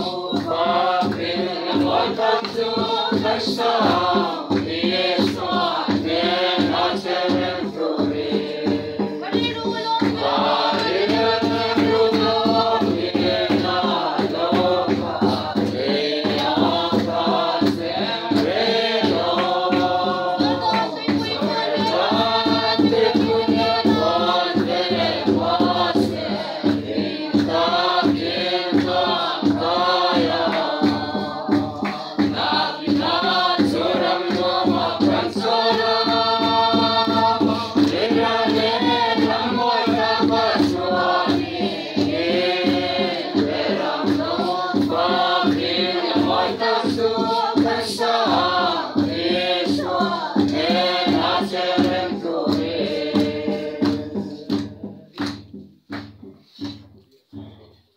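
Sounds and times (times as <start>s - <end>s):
group singing a hymn: 0.0s - 56.7s
barrel drum beating: 0.0s - 57.6s.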